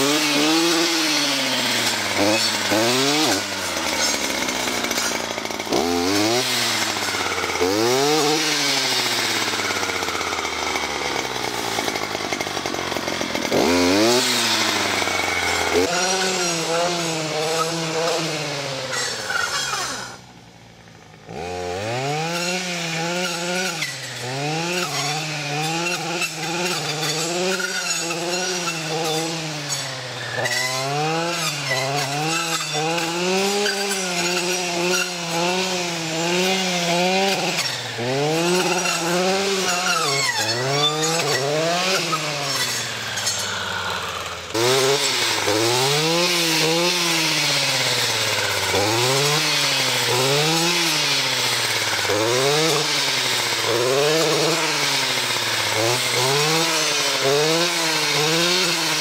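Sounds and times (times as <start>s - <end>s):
brushcutter engine at high revs: 0.0s - 59.0s.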